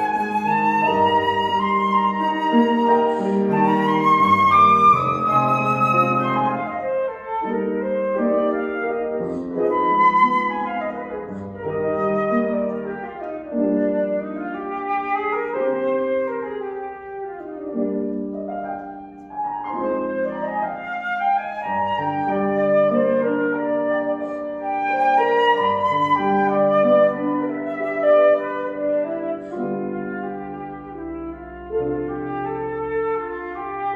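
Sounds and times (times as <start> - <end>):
flute playing melody: 0.0 - 33.9
piano accompaniment: 0.0 - 33.9.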